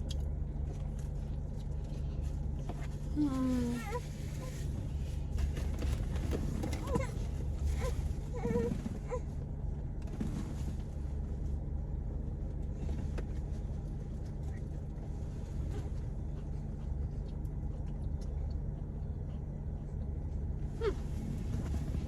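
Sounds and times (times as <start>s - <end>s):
car cabin hum: 0.0s - 22.0s.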